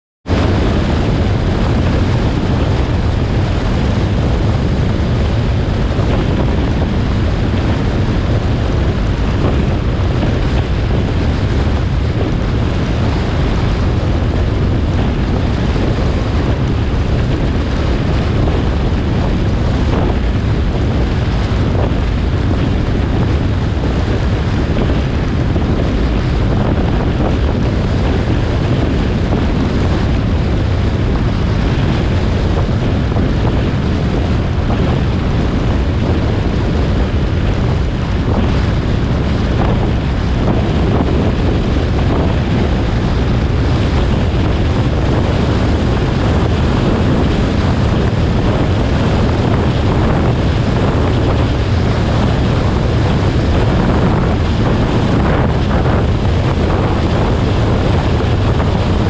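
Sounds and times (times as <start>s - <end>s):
road noise: 0.2s - 59.0s
wind rushing on microphone: 0.2s - 59.0s.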